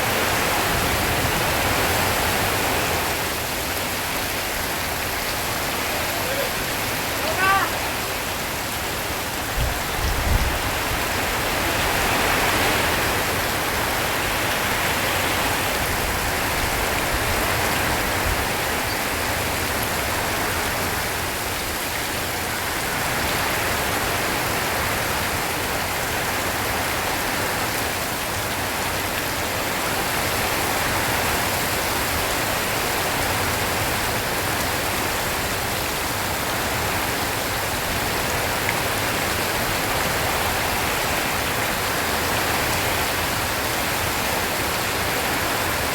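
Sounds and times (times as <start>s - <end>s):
heavy rain on a tin roof: 0.0s - 45.9s.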